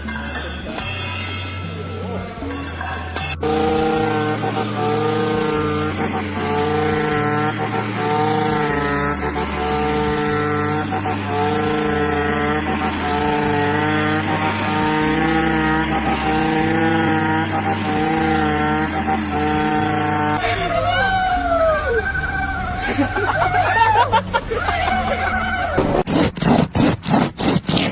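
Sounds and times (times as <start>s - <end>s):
pulsing bass line: 0.0s - 26.1s.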